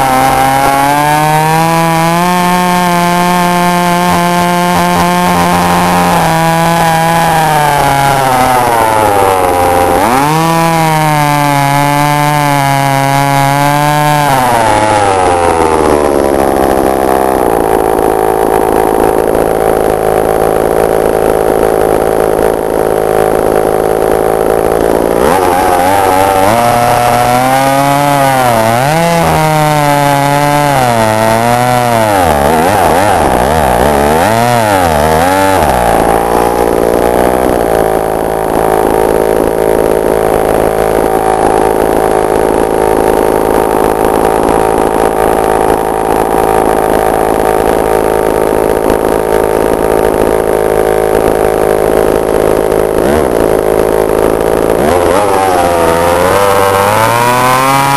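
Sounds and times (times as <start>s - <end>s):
chainsaw idling and revving: 0.0s - 57.9s.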